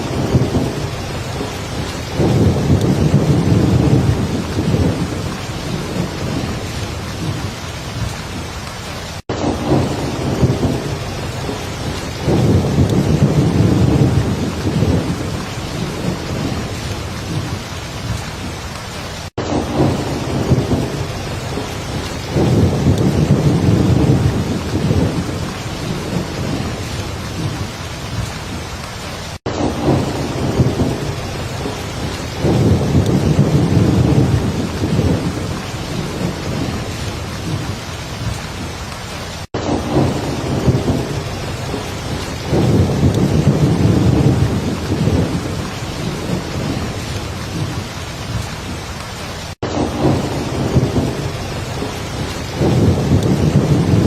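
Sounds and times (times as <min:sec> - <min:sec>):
heavy rain falling: 0:00.0 - 0:54.0
low thunder rumbling: 0:00.0 - 0:54.0.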